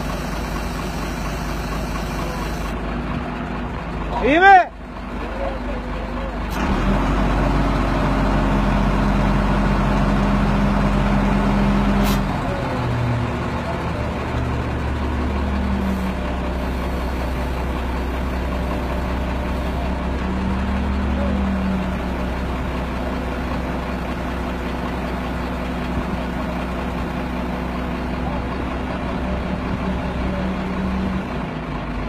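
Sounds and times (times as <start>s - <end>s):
crane truck engine running: 0.0s - 32.0s.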